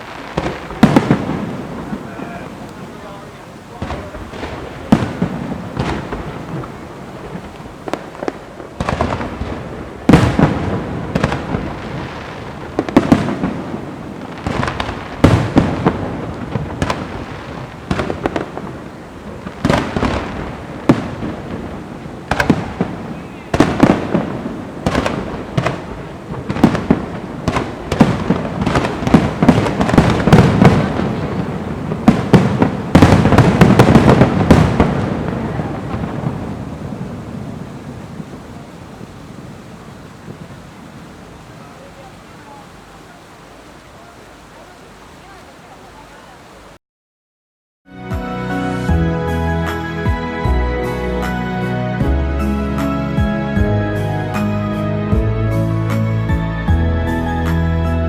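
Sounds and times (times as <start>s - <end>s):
fireworks bangs and booms: 0.0s - 46.7s.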